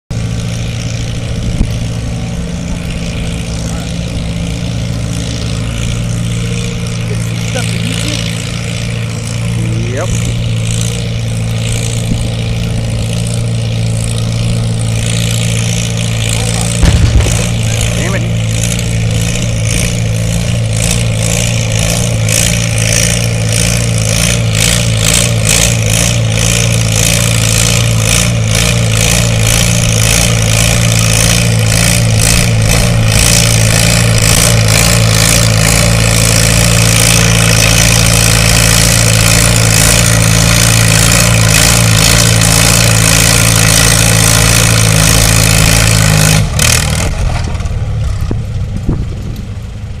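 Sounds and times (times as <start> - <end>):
tractor engine at full throttle: 0.1 - 50.0.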